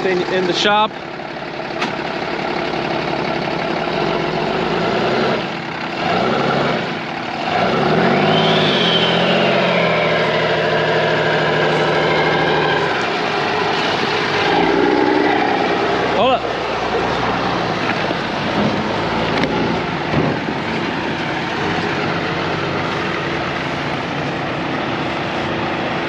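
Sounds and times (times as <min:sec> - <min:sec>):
pickup truck engine running: 0:00.0 - 0:26.0.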